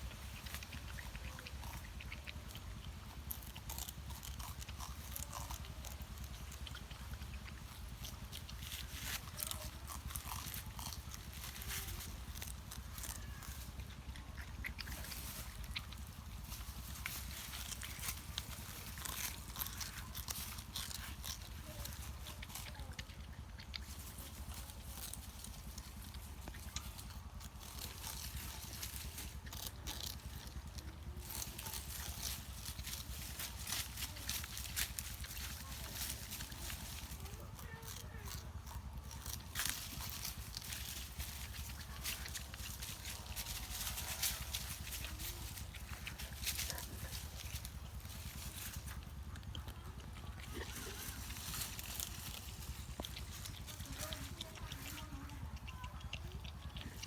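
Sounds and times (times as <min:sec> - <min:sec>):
low steady rumble: 0:00.0 - 0:57.0
porcupine gnawing bamboo: 0:00.0 - 0:57.0
steady low hum: 0:00.0 - 0:57.0.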